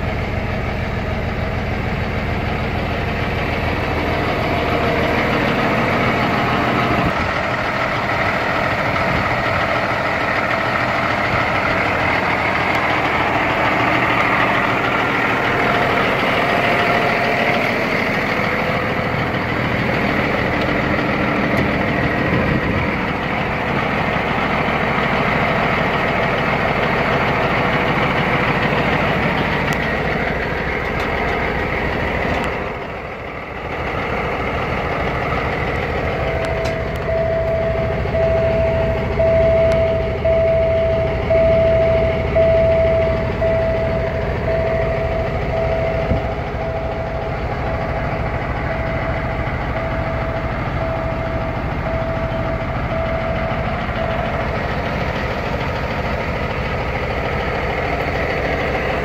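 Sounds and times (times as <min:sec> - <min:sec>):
truck diesel engine idling: 0:00.0 - 0:59.0.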